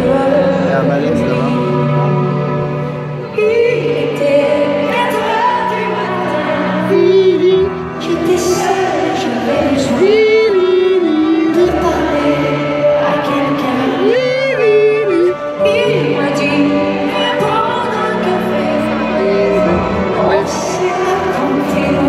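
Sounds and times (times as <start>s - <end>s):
piano and band accompaniment: 0.0s - 22.0s
woman singing a slow ballad: 0.0s - 22.0s.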